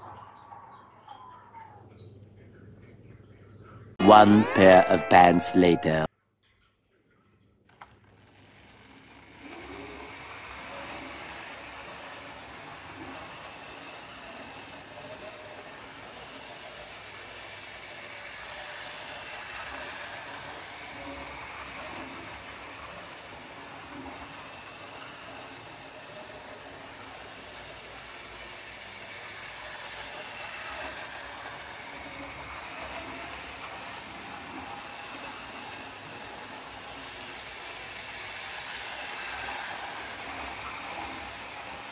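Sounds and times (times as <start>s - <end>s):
model train running on track: 4.0s - 6.1s, 8.3s - 41.9s.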